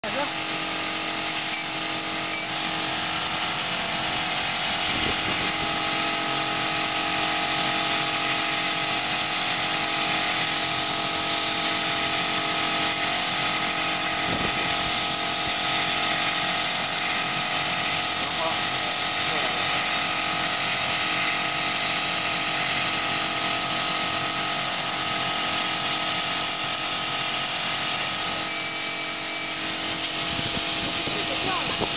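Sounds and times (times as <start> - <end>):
laser cutter machine hum: 0.0 - 31.9.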